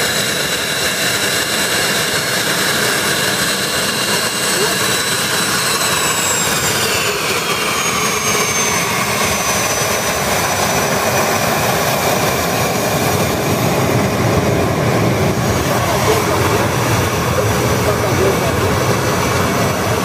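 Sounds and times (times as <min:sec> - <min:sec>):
jet engines rushing and whining: 0:00.0 - 0:20.0.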